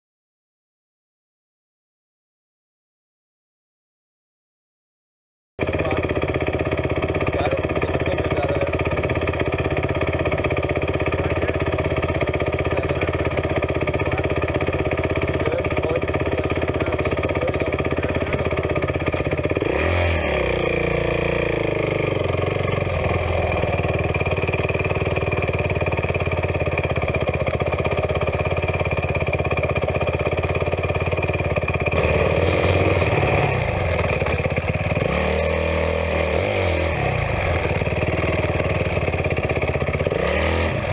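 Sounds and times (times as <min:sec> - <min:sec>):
dirt bike engine running: 0:05.6 - 0:40.9.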